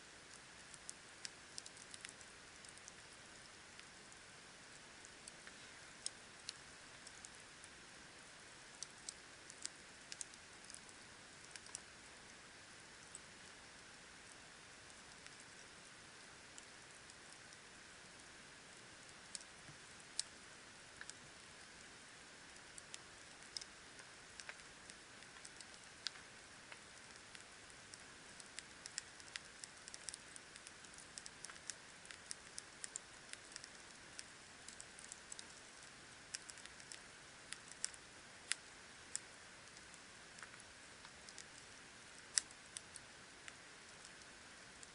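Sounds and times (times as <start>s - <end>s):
faint steady hiss: 0.0s - 44.9s
campfire crackling and popping: 0.2s - 12.0s, 12.8s - 44.9s.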